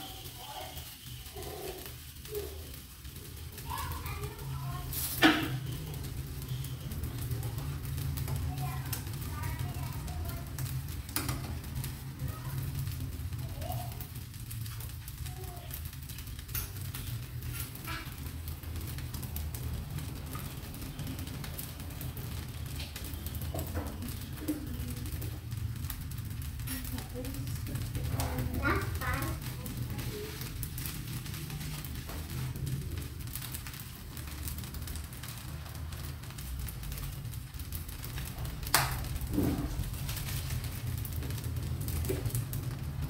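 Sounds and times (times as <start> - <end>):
rice crackling in a wok: 0.0 - 43.0.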